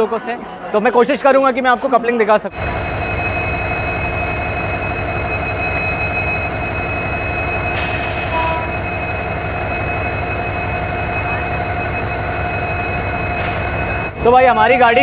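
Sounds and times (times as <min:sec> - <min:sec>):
locomotive diesel engine drone: 0:02.5 - 0:15.0.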